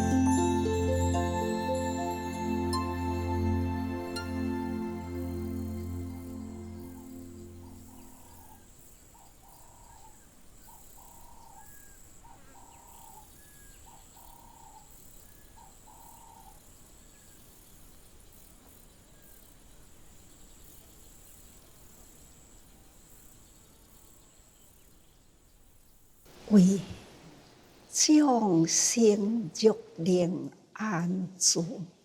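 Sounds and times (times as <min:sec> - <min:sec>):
insect trill: 0:00.0 - 0:26.6.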